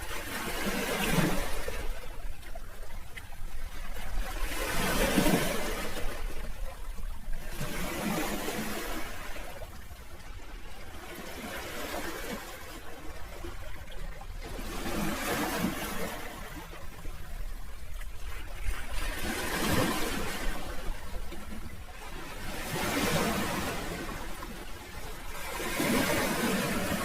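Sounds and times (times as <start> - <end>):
sea waves washing on shore: 0.0 - 27.0.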